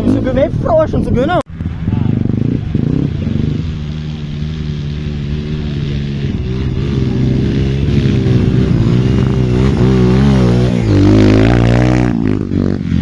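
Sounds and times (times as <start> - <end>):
motorcycle engine revving: 1.4 - 13.0.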